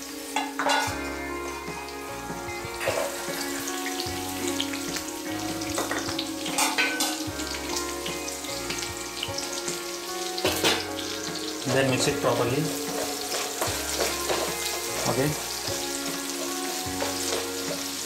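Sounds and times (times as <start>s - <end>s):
crackles and pops of frying: 0.0s - 18.0s
onions sizzling in oil: 0.0s - 18.0s.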